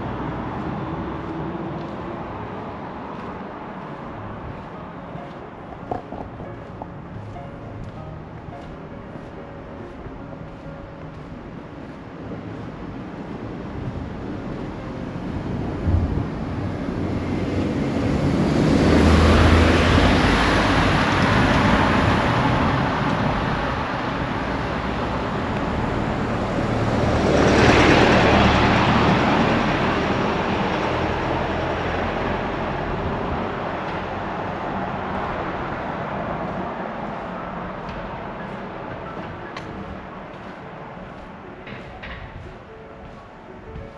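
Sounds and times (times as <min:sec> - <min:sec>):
vehicles driving past: 0:00.0 - 0:43.9.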